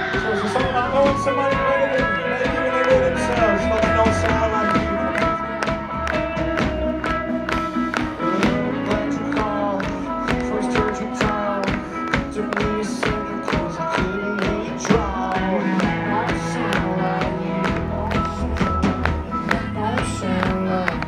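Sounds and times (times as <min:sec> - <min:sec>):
country band playing: 0:00.0 - 0:21.0
steady drum beat: 0:00.0 - 0:21.0.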